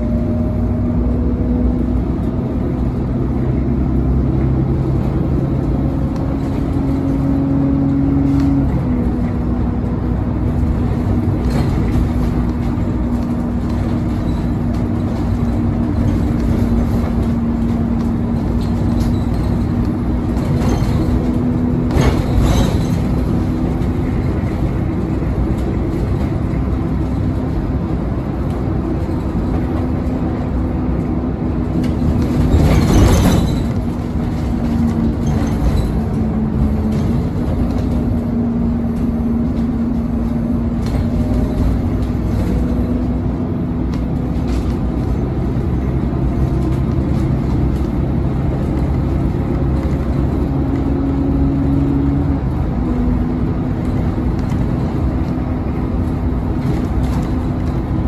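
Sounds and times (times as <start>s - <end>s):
bus engine hum: 0.0s - 58.0s
road and tyre noise: 0.0s - 58.0s.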